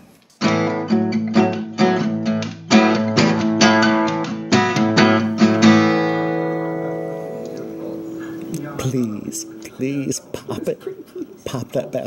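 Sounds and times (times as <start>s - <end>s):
guitar strumming chords: 0.4s - 11.1s.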